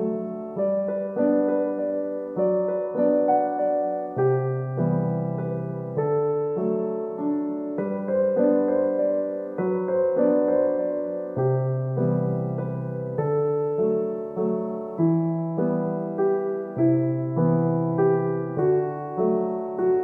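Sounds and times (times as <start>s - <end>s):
gentle slow piano piece: 0.0s - 20.0s.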